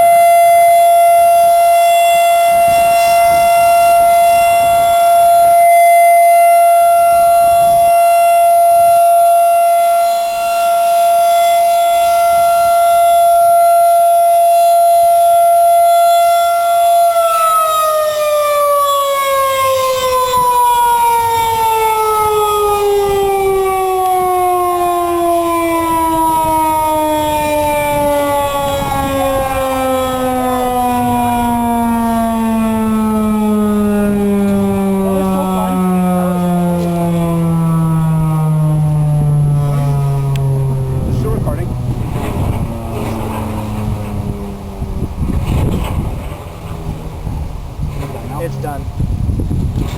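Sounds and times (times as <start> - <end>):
tornado warning siren: 0.0 - 49.9.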